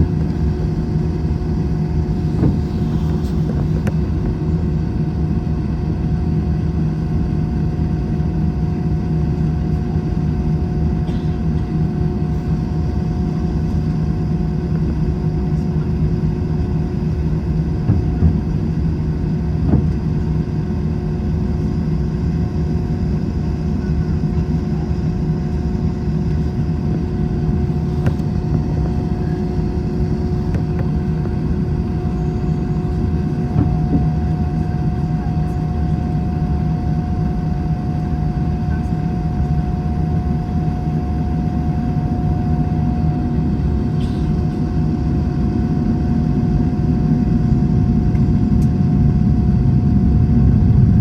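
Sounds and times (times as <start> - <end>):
airplane cabin engine drone: 0.0 - 51.0.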